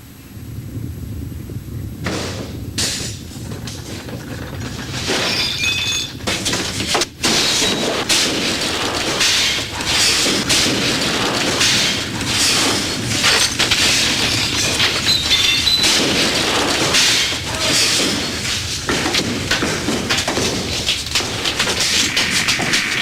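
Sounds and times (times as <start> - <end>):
things crashing down: 2.0 - 23.0
glass shattering: 4.6 - 23.0.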